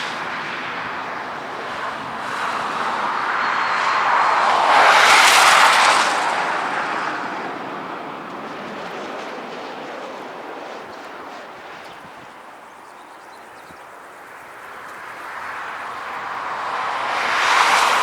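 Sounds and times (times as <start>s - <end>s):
jet airliner engine roar: 0.0s - 18.0s.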